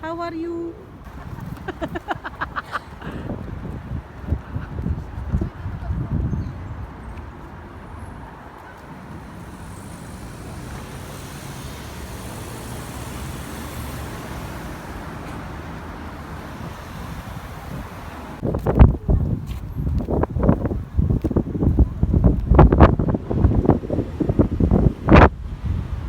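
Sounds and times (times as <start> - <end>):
passing cars: 0.7 - 26.0.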